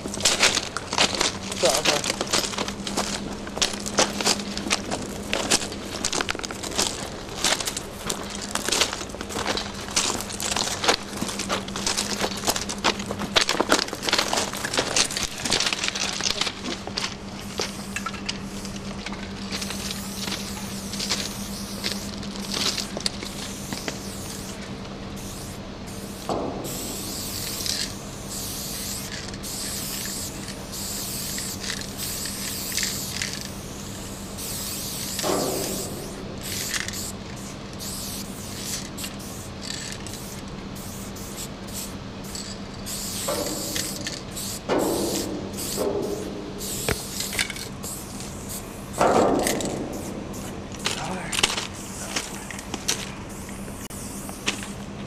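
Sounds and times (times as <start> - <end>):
spray paint cans hissing: 0.0 - 54.9
steady low hum: 0.0 - 55.0.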